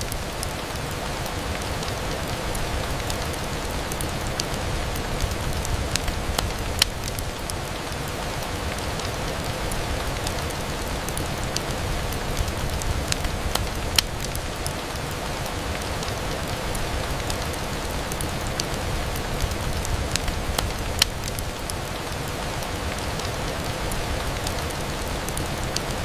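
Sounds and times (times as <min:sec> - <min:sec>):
rain on a window: 0:00.0 - 0:26.0.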